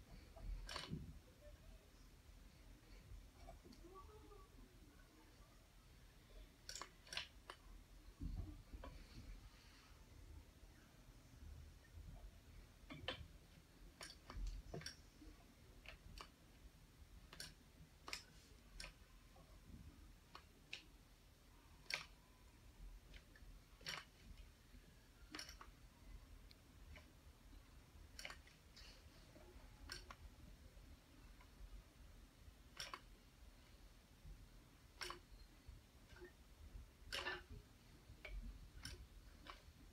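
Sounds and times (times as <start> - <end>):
faint metal needle clicks: 0.1 - 1.5, 6.2 - 9.4, 11.9 - 21.0, 21.7 - 39.9.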